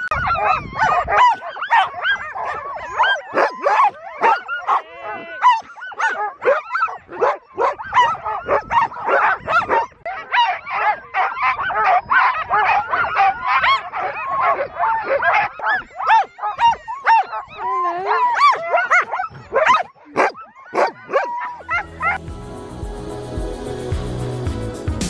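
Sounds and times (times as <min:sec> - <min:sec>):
sled dogs barking and yipping: 0:00.0 - 0:22.2.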